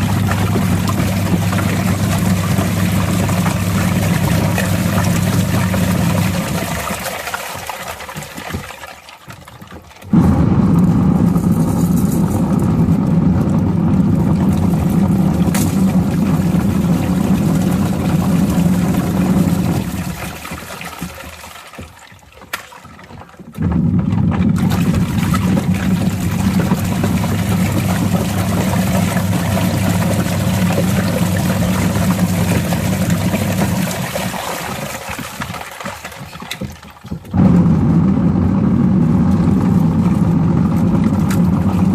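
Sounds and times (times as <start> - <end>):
washing machine motor humming: 0.0 - 41.9.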